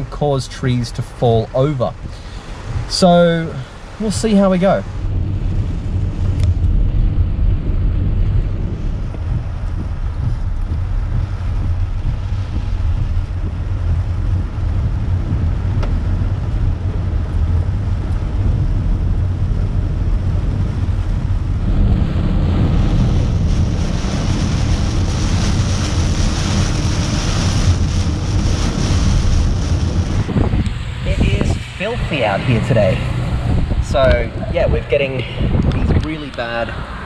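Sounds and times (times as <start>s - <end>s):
hiss of rain and spray: 0.0s - 37.0s
tyres rumbling on flooded road: 0.0s - 37.0s.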